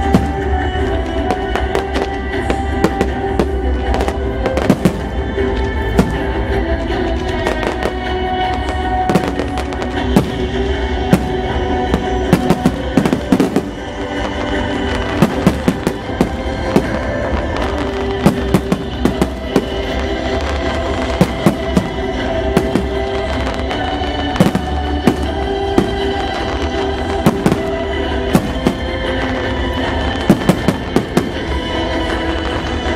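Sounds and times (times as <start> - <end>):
fireworks bursting: 0.0 - 32.9
music playing: 0.0 - 32.9.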